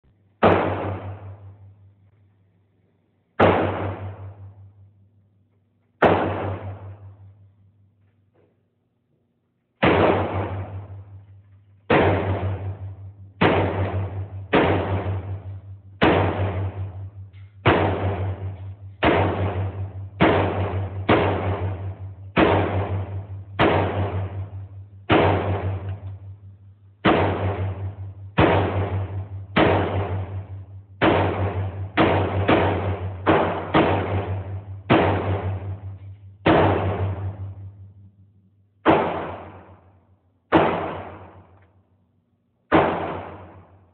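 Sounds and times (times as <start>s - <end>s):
rifle shots echoing indoors: 0.0s - 8.3s, 9.5s - 43.9s.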